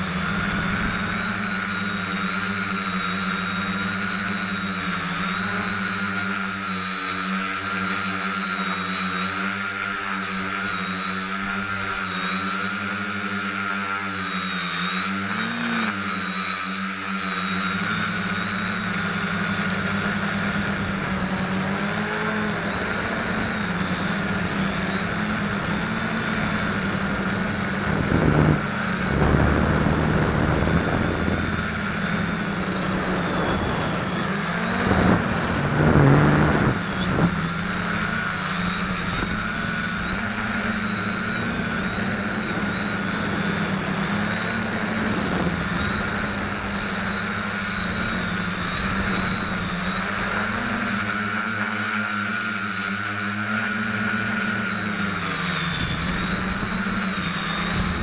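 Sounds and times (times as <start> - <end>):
quadcopter motors buzzing: 0.0 - 58.0.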